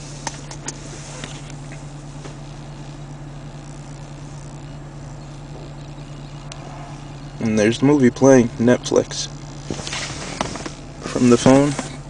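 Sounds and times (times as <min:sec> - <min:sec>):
low hum in car cabin: 0:00.0 - 0:12.0.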